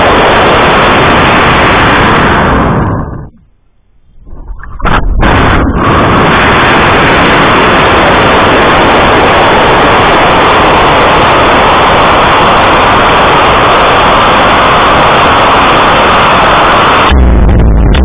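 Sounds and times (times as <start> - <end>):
air rushing past rocket: 0.0 - 3.4, 4.2 - 18.0.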